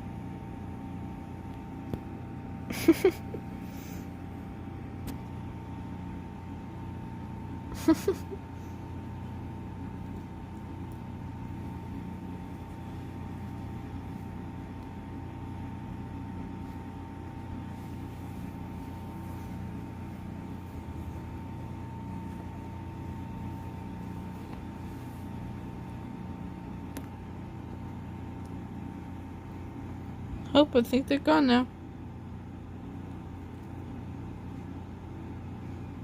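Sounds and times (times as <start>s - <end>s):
machine hum with thin whine: 0.0s - 36.0s.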